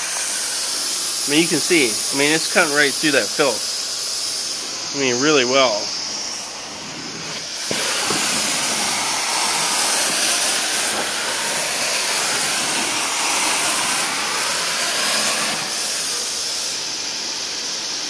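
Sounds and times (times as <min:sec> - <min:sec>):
carpet extractor rushing hiss: 0:00.0 - 0:18.0.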